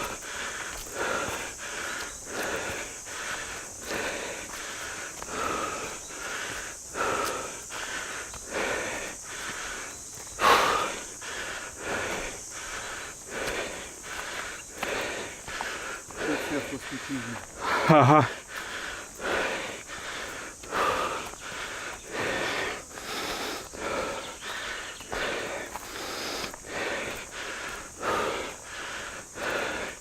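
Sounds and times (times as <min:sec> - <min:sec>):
heavy rhythmic panting: 0:00.0 - 0:30.0.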